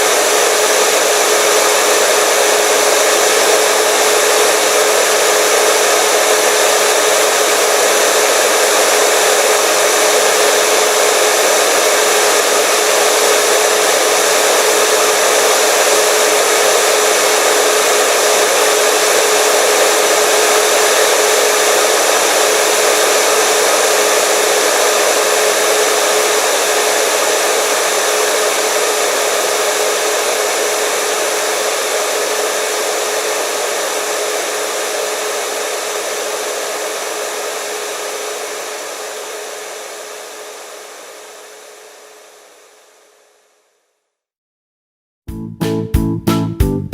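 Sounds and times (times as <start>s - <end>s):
hair dryer running: 0.0s - 43.6s.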